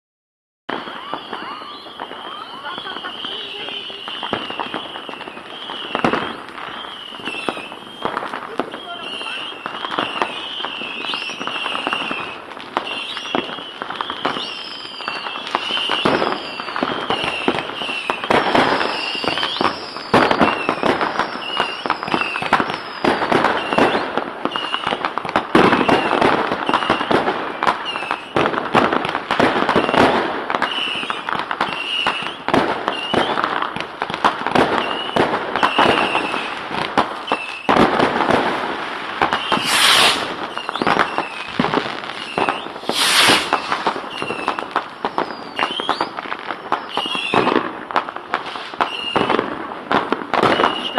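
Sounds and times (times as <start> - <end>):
fireworks bangs and cracks: 0.7 - 50.9
fireworks whistling: 0.7 - 50.9.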